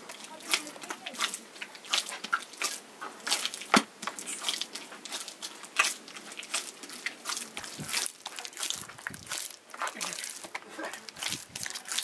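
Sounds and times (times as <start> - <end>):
hands kneading sticky dough: 0.0 - 12.0.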